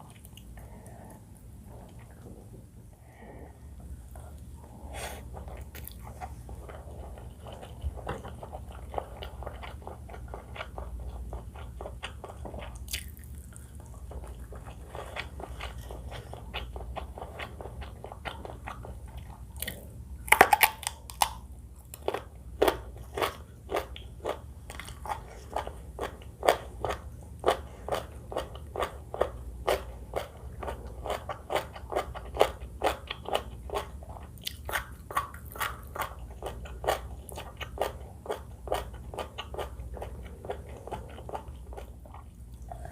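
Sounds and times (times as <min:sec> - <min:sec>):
crunchy biting and chewing: 0:05.0 - 0:42.9.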